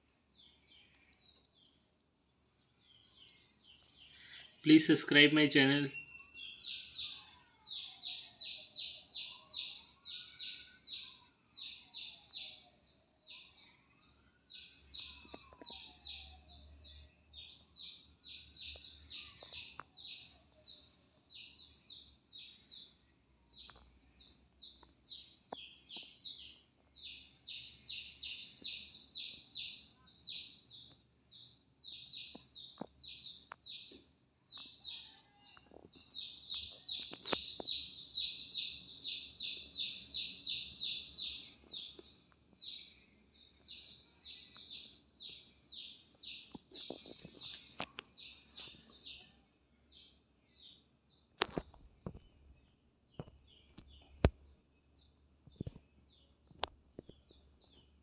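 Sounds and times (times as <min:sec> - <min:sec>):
chick peeping: 0:04.6 - 0:22.9, 0:23.5 - 0:49.4, 0:50.0 - 0:54.5.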